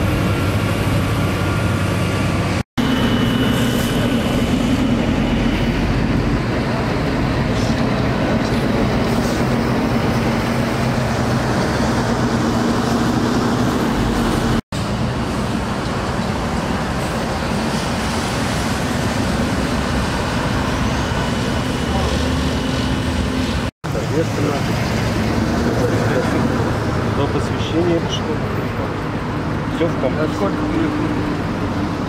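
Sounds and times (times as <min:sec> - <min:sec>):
engines running with low drone: 0:00.0 - 0:32.0
street traffic: 0:00.0 - 0:32.0.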